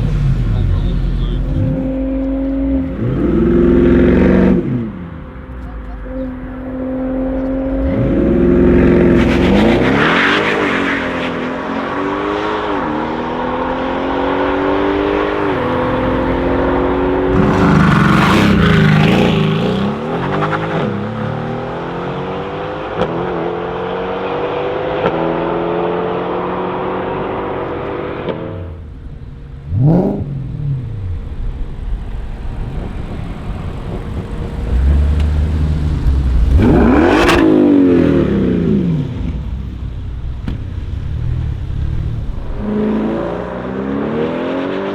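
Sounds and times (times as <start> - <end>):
car engine accelerating hard: 0.0 - 44.9.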